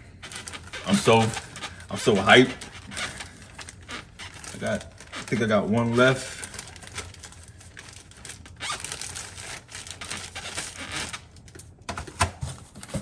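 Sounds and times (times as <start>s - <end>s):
plastic bag crinkling: 0.2s - 11.9s.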